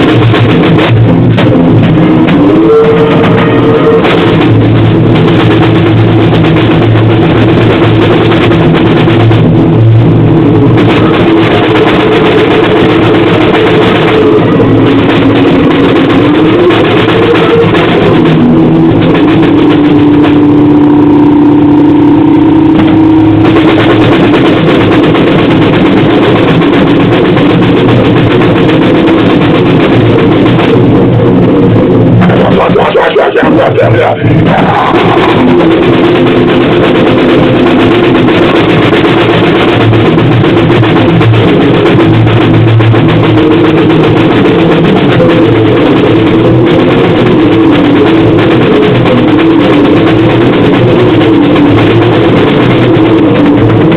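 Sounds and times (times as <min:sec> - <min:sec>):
harsh distorted noise music: 0:00.0 - 0:53.9.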